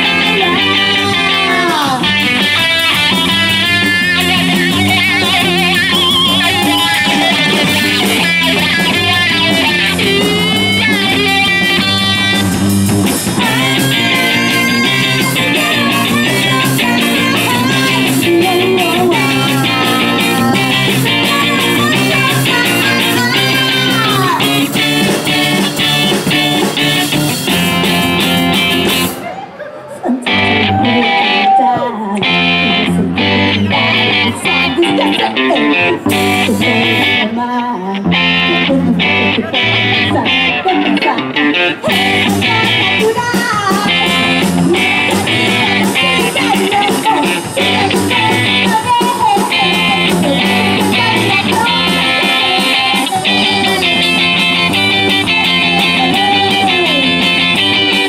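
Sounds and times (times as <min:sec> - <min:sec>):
drum kit: 0:00.0 - 0:29.2, 0:32.5 - 0:37.2, 0:41.8 - 0:58.0
lead guitar bending notes: 0:00.0 - 0:29.2, 0:30.2 - 0:31.5, 0:32.1 - 0:58.0
electric guitars: 0:00.0 - 0:58.0.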